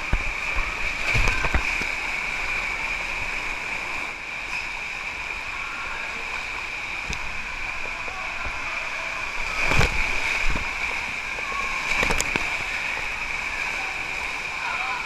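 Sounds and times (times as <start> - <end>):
water rushing down a water slide: 0.0 - 15.0.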